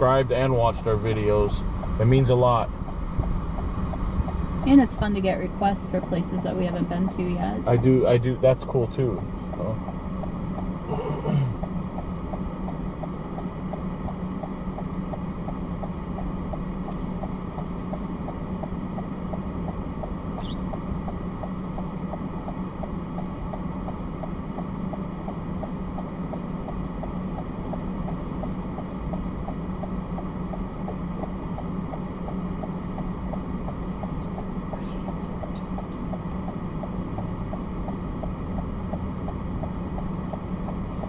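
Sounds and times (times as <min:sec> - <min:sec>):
light even ticking: 0:00.0 - 0:41.0
road and engine noise: 0:00.0 - 0:41.0.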